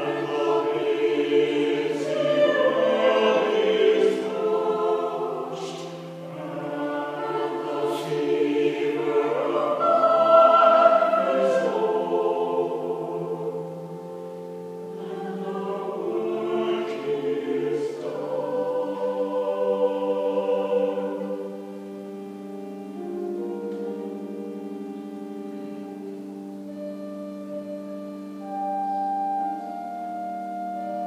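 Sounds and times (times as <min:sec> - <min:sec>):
choir singing sustained chords: 0:00.0 - 0:31.0.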